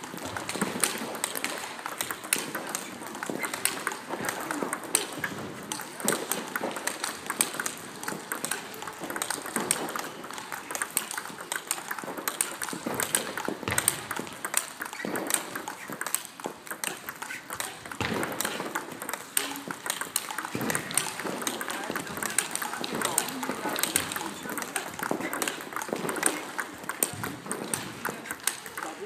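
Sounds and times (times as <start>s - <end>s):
table tennis balls clicking: 0.0s - 29.0s.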